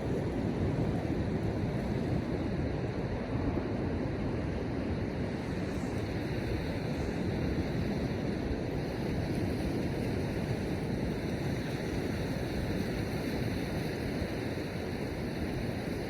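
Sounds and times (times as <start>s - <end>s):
surf rushing on beach: 0.0s - 16.0s
wind rumbling on microphone: 0.0s - 16.0s.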